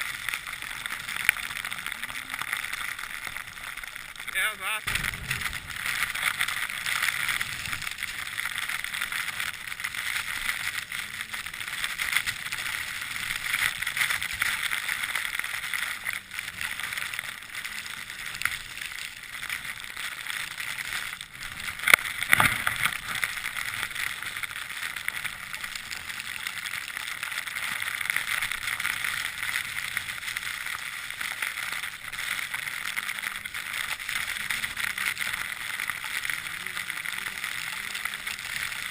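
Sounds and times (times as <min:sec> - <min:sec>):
skis scraping on snow: 0:00.0 - 0:38.9.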